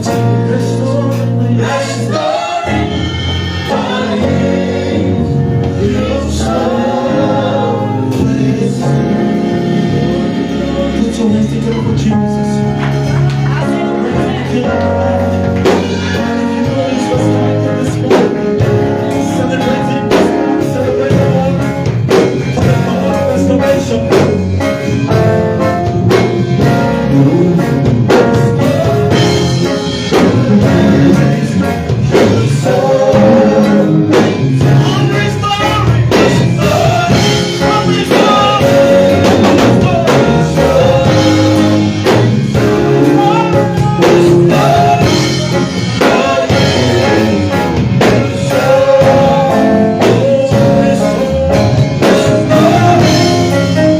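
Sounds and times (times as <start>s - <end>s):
drum kit and band: 0.0s - 53.9s
voices singing gospel: 0.0s - 53.9s.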